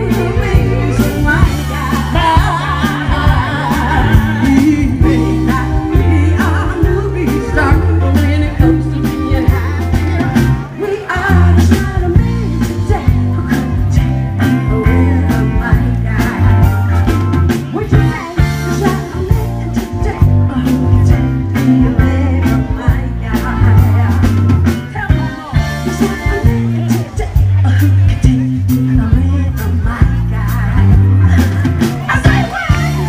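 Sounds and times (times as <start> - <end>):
drums: 0.0 - 33.0
walking bass line: 0.0 - 33.0
women singing: 0.0 - 33.0.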